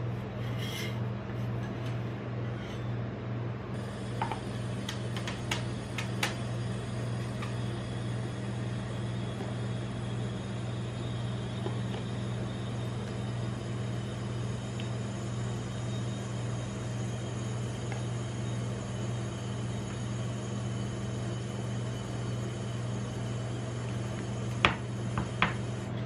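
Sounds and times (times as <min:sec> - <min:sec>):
compressor humming: 0:00.0 - 0:26.0.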